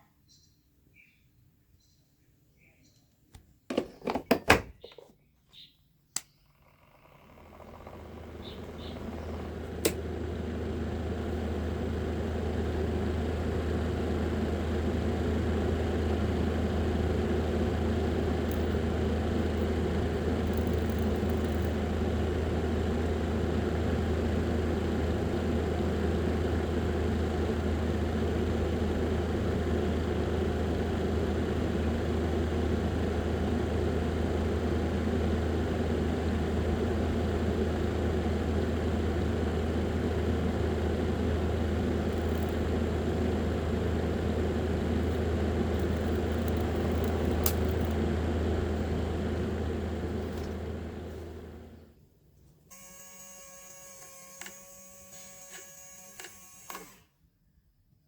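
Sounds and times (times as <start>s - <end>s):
low mechanical hum: 6.2s - 57.1s.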